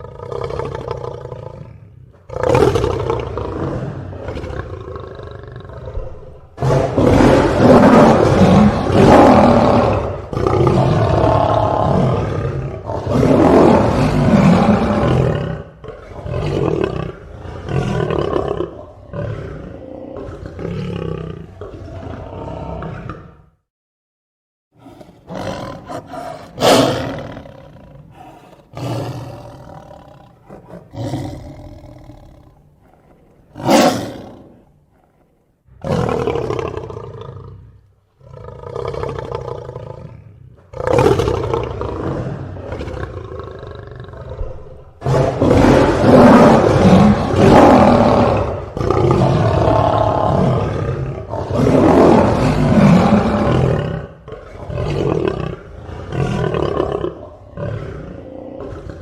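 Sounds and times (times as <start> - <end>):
tiger roaring: 0.0 - 23.6, 24.8 - 59.0.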